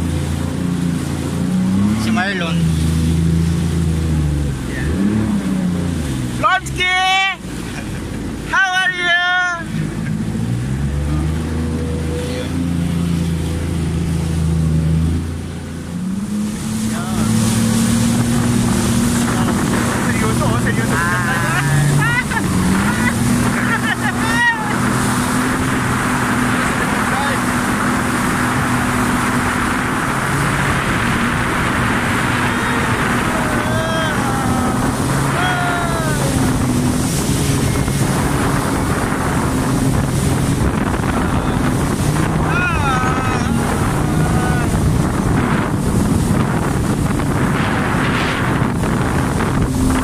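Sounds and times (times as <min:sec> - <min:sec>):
jet ski engine running: 0:00.0 - 0:50.0
water rushing: 0:00.0 - 0:50.0
wind buffeting microphone: 0:09.7 - 0:50.0.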